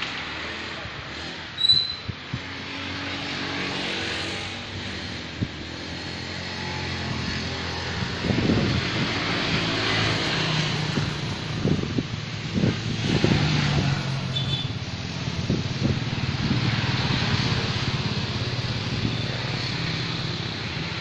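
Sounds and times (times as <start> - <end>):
vehicle passing by: 2.3 - 21.0.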